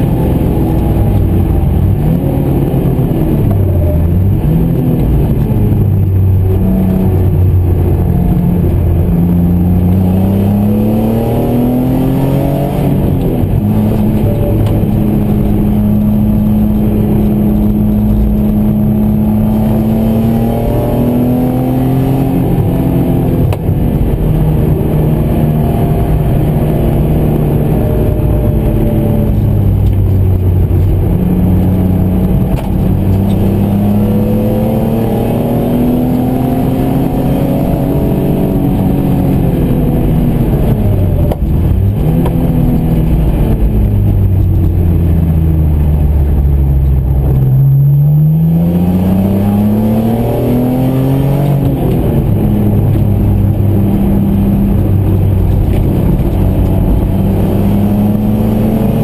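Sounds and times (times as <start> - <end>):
car engine revving hard: 0.0 - 59.0.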